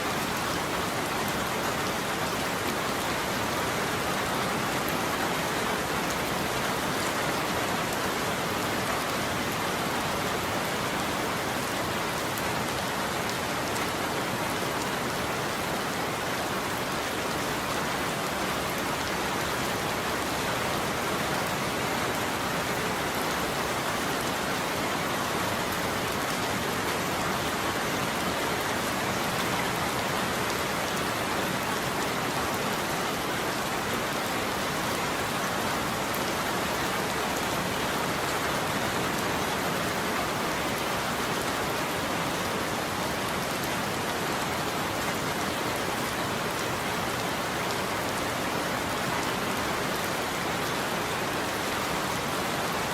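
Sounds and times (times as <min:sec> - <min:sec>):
heavy rain on a roof: 0:00.0 - 0:52.9.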